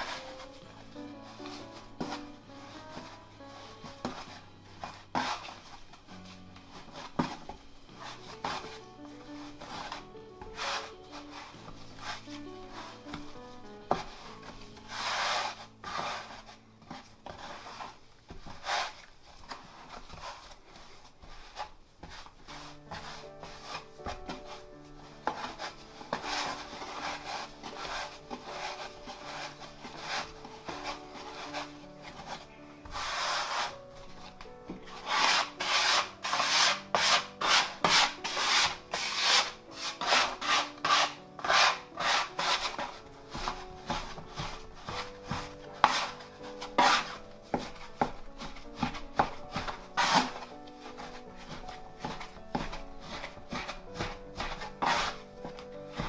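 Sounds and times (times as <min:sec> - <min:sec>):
hands kneading dough on a surface: 0:00.0 - 0:56.0.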